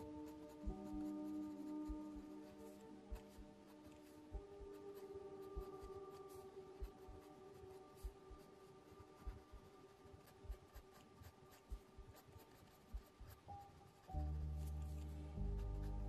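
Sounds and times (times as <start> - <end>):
faint background music: 0.0 - 16.0
pencil scratching on paper: 0.0 - 16.0.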